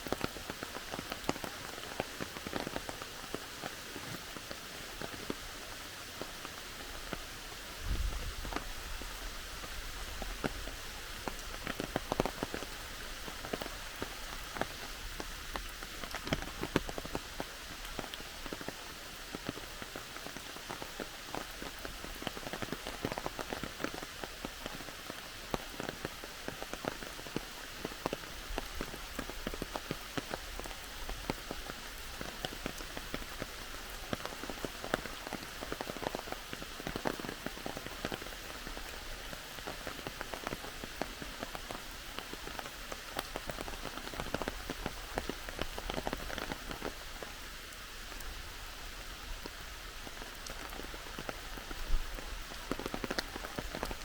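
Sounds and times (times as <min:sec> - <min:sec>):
heavy rain: 0:00.0 - 0:54.0
raindrops ticking: 0:00.1 - 0:07.6, 0:08.4 - 0:54.0.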